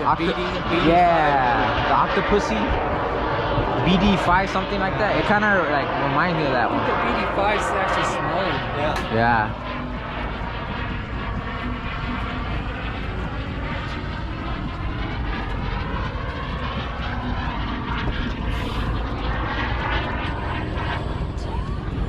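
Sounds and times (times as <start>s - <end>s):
small airplane engine drone: 0.0s - 22.0s.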